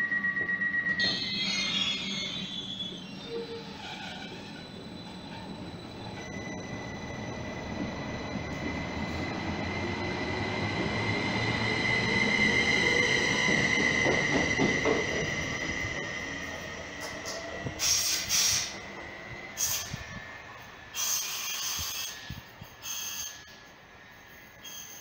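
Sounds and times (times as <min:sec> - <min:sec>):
train rumble: 0:00.4 - 0:25.0.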